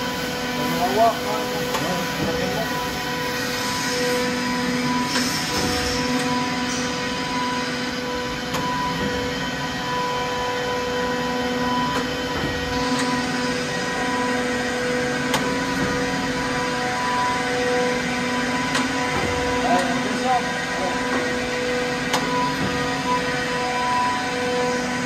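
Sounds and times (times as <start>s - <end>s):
grinder machine humming: 0.0s - 25.0s.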